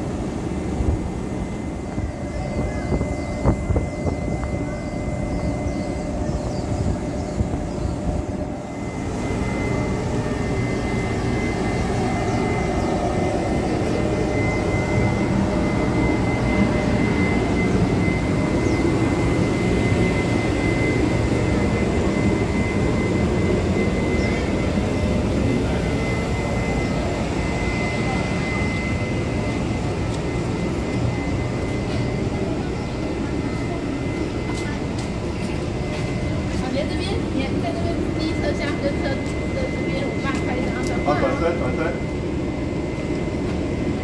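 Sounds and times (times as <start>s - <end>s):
diesel train engine rumble: 0.0s - 44.0s
thin high whine: 0.0s - 44.0s.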